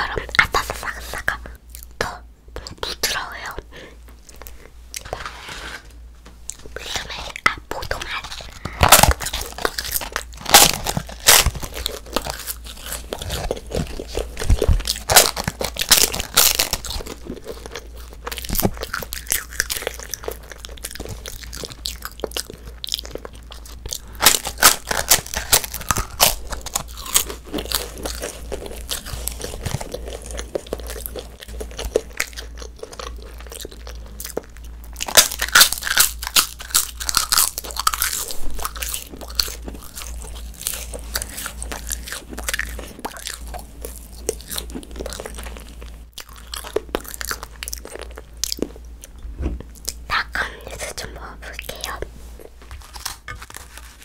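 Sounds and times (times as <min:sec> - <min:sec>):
crunchy paper chewing: 0:06.5 - 0:48.7, 0:49.7 - 0:54.0.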